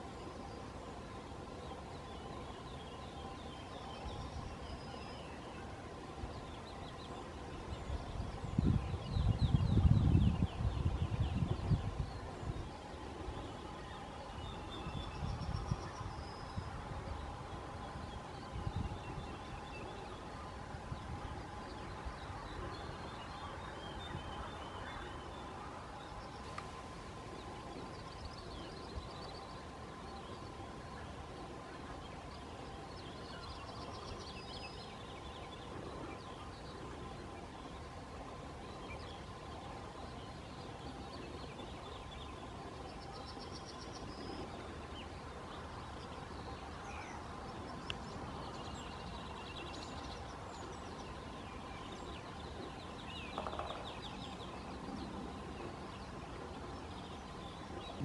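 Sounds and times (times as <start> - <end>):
outdoor background hiss: 0.0 - 58.0
songbirds singing: 0.0 - 58.0.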